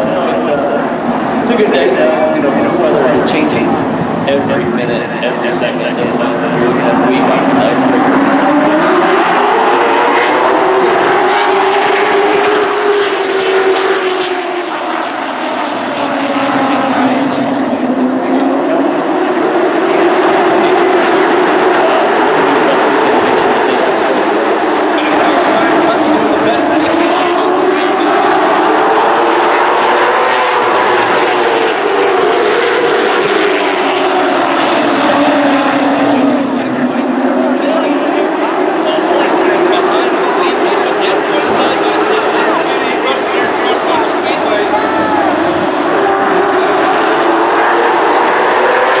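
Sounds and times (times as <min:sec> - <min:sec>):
race car engines droning: 0:00.0 - 0:49.0.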